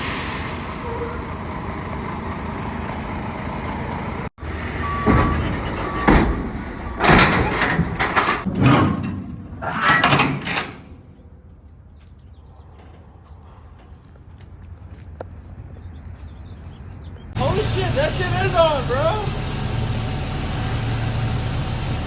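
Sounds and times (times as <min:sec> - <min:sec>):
vehicle engine rumble: 0:00.0 - 0:09.7, 0:10.4 - 0:22.0.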